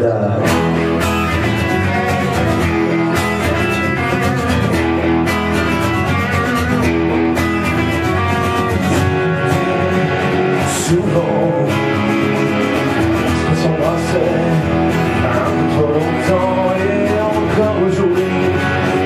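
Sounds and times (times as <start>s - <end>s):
live rock guitars: 0.0s - 19.0s.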